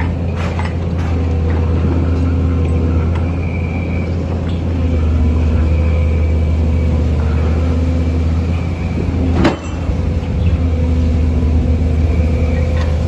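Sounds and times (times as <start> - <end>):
heavy engine droning: 0.0 - 13.0.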